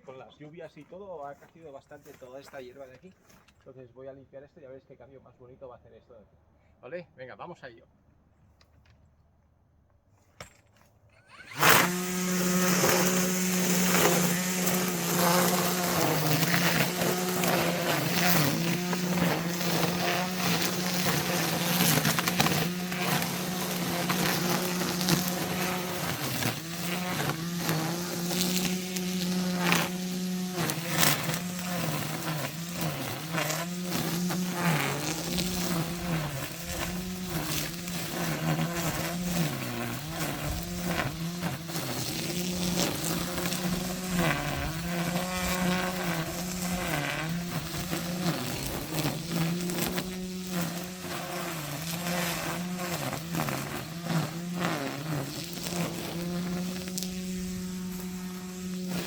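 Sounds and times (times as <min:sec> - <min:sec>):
brush cutter cutting grass: 0:11.1 - 0:59.0.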